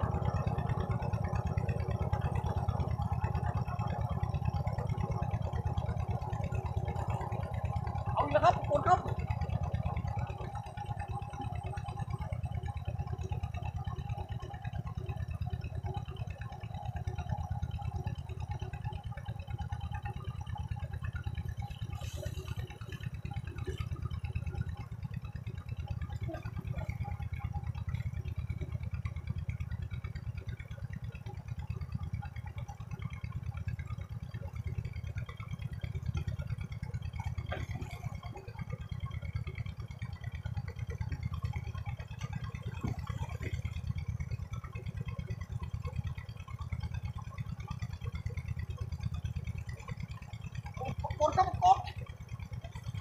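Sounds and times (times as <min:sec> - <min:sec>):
faint water sounds: 0:00.0 - 0:53.0.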